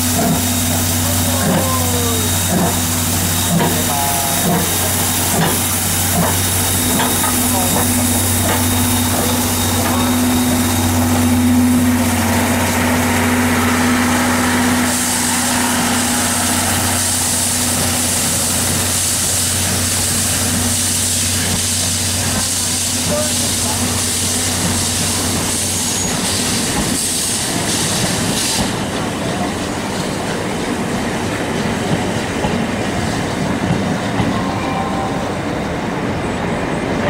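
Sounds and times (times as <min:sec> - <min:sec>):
loud hiss of steam: 0:00.0 - 0:34.2
steam locomotive drone: 0:00.0 - 0:37.0.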